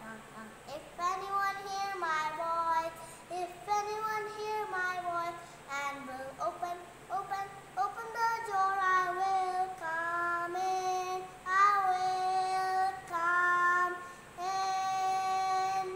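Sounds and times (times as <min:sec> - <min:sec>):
girl singing unaccompanied: 0:00.0 - 0:15.9.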